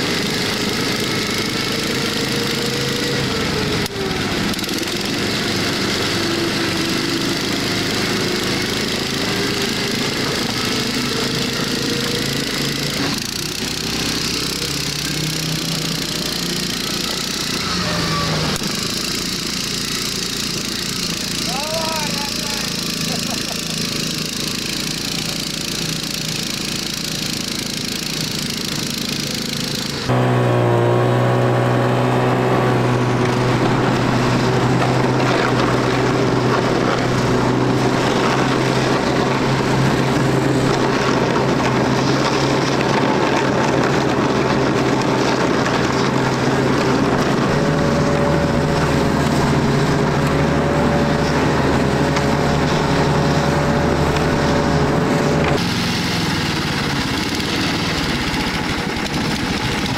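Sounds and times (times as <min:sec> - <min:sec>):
towing sled engine running: 0:00.0 - 0:59.9.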